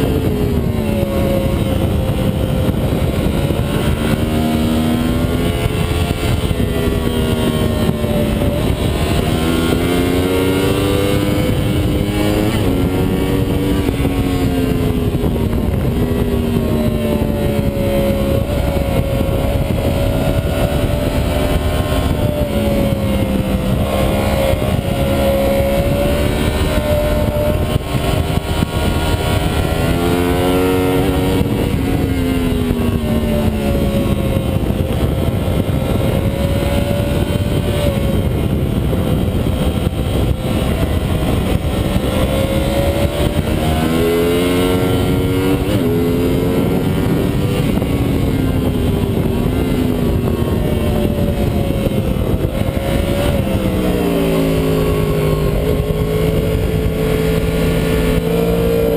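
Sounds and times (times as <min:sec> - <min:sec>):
motorcycle engine accelerating: 0:00.0 - 0:58.9
wind rush over microphone: 0:00.0 - 0:58.9.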